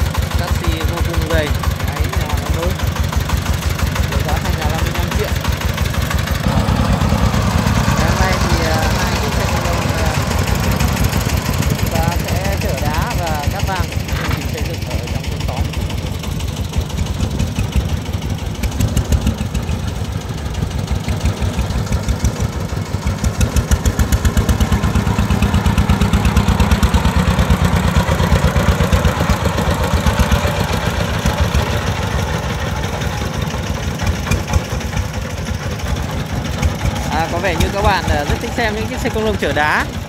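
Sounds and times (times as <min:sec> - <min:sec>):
diesel engine chugging: 0:00.0 - 0:40.0.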